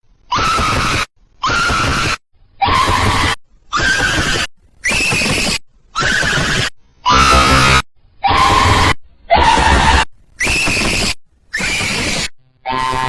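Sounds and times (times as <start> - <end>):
cartoon girl screaming: 0.3 - 13.0.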